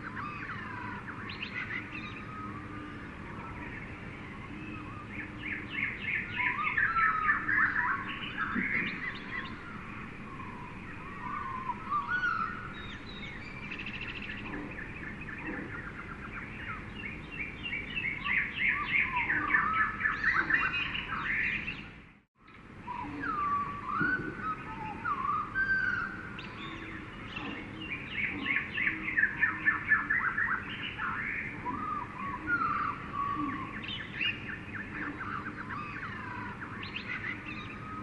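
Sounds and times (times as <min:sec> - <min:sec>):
birds chirping and trilling: 0:00.0 - 0:38.0
steady background hiss: 0:00.0 - 0:38.0.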